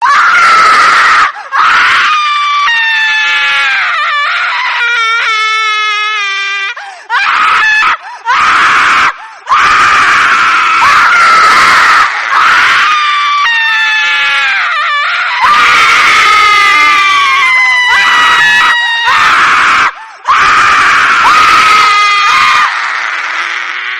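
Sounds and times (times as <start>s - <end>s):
shrill screaming: 0.0s - 23.9s.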